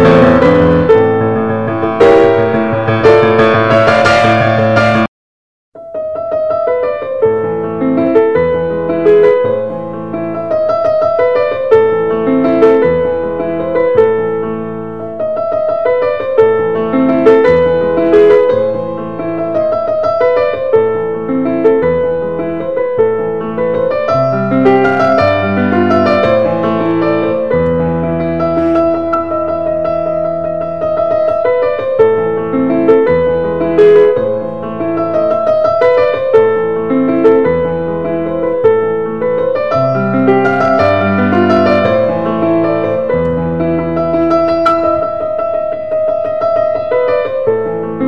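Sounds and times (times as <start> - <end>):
background piano music: 0.0 - 5.1, 5.8 - 48.0.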